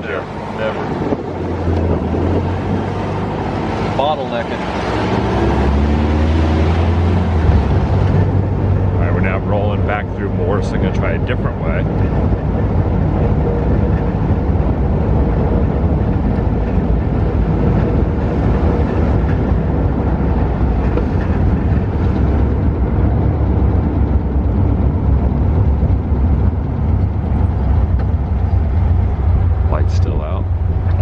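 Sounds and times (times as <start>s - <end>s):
buggy engine and road noise: 0.0s - 31.0s.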